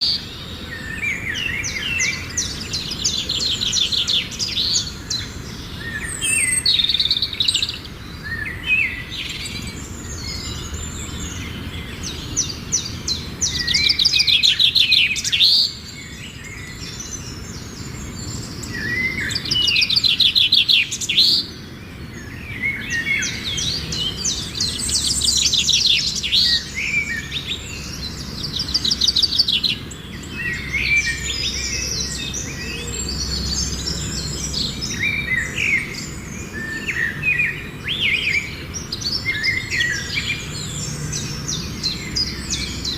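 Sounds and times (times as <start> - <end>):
songbirds trilling and chirping: 0.0 - 42.9.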